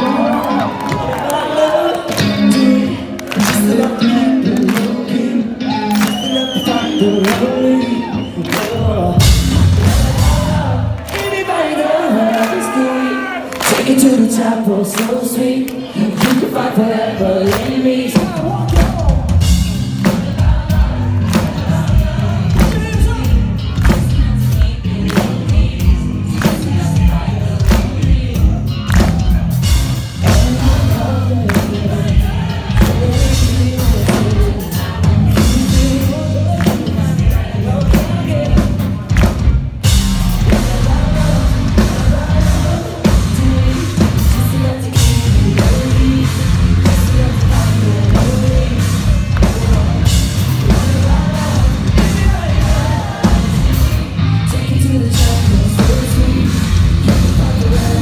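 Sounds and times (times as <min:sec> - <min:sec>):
drums: 0:00.0 - 0:58.0
sung vocals: 0:00.0 - 0:58.0
distorted guitars: 0:01.8 - 0:58.0.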